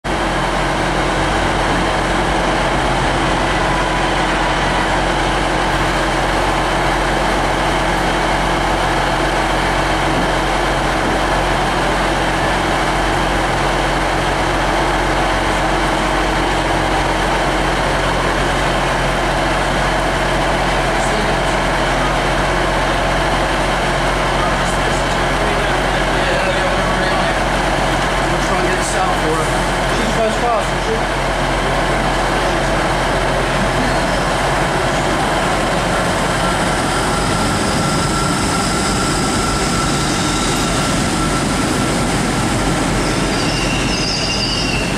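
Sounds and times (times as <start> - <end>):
diesel train engines droning: 0.0 - 44.9.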